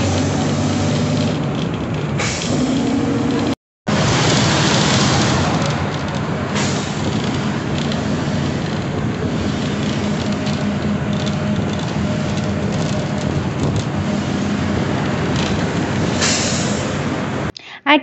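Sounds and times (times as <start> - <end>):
bus engine drone: 0.0 - 17.6
road noise: 0.0 - 17.6.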